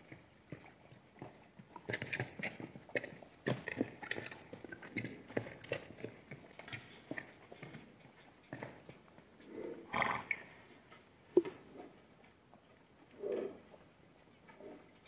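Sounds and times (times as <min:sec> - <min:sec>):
hooves clopping on hard ground: 0:00.0 - 0:15.0.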